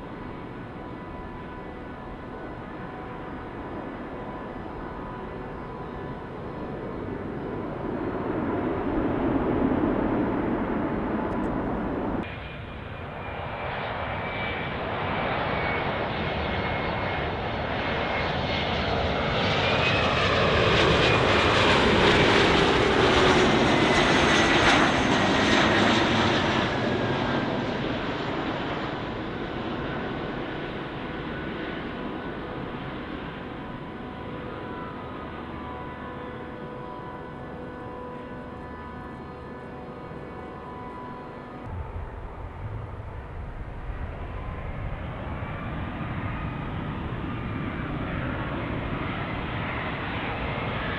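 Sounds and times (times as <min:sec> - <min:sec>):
jet landing and passing: 0:00.0 - 0:37.3, 0:40.6 - 0:50.9
jet noise: 0:00.0 - 0:50.9.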